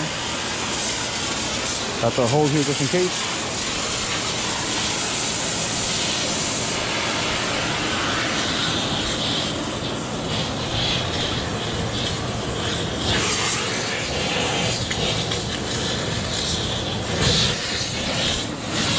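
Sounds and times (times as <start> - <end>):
blowtorch flame hissing: 0.0 - 18.9.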